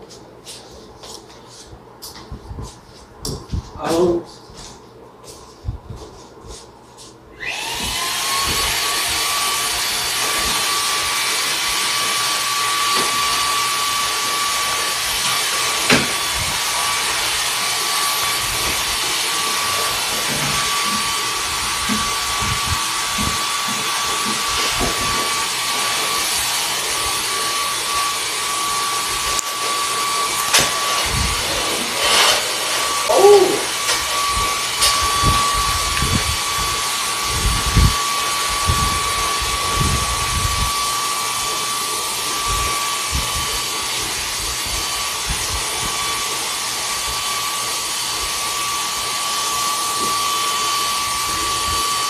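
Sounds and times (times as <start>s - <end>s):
appliance motor whining: 7.3s - 52.0s.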